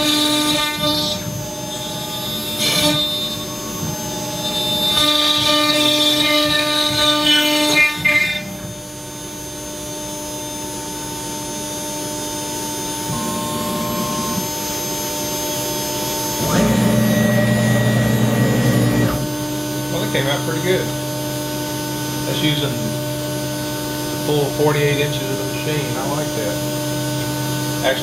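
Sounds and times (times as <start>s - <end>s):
electrical hum: 0.0s - 28.0s
loud steady machine sound: 0.0s - 28.0s
machine whine: 0.0s - 28.0s.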